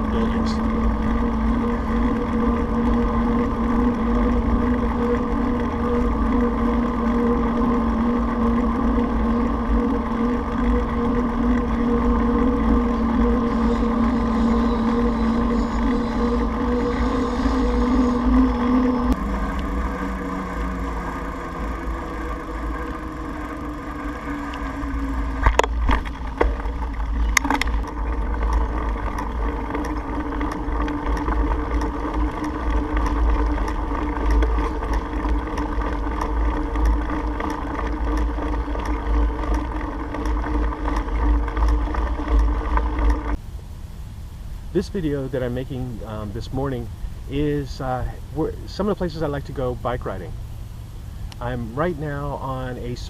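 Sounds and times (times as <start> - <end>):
steady droning hum: 0.0 - 53.0
wind rumbling on microphone: 0.0 - 53.0.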